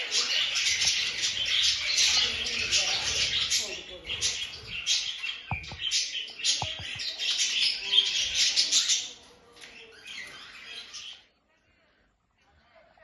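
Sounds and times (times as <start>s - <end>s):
small birds chirping chorus: 0.0s - 11.9s.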